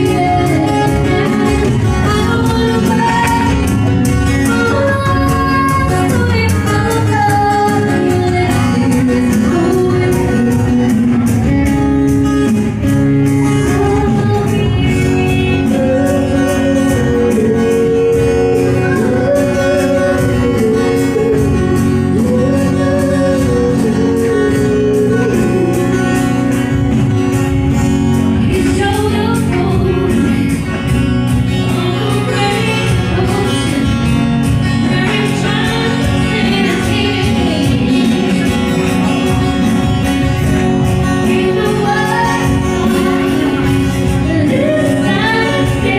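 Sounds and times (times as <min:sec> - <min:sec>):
person singing: 0:00.0 - 0:27.2, 0:28.0 - 0:45.9
acoustic guitar: 0:00.0 - 0:45.9.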